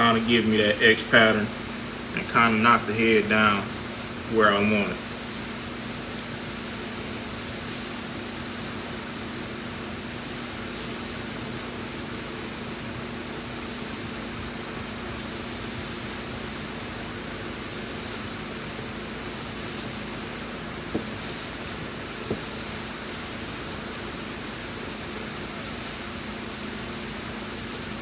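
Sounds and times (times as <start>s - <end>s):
constant low hum: 0.0s - 27.8s
steady hiss: 0.0s - 28.0s.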